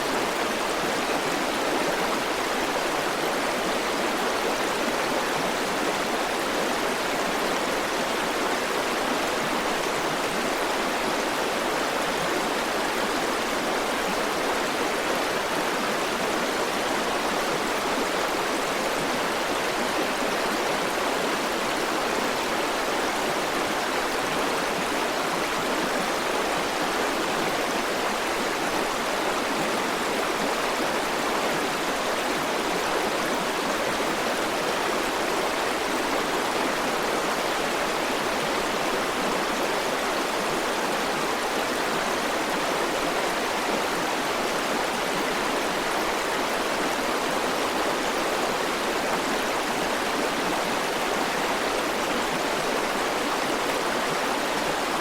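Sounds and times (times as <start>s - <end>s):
river running over rocks: 0.0s - 55.0s.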